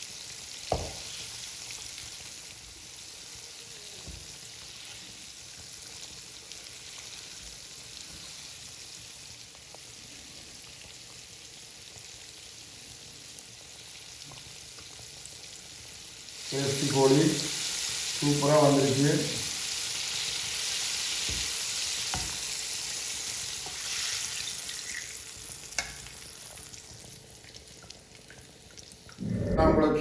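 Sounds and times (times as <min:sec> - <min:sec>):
chicken deep-frying in oil: 0:00.0 - 0:29.2.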